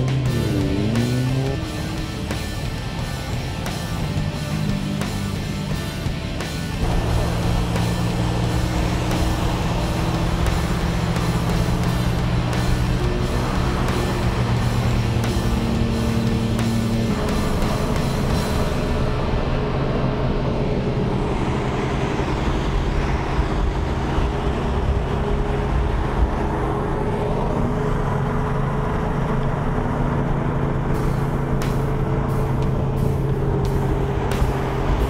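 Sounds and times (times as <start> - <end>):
car engine running: 0.0 - 35.0
road rumble: 0.0 - 35.0.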